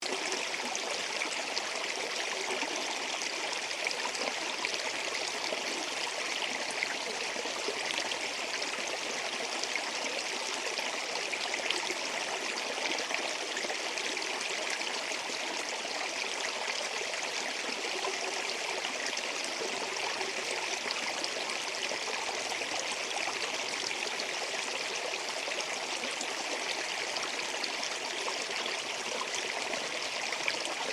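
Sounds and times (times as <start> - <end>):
stream babbling over stones: 0.0 - 30.9.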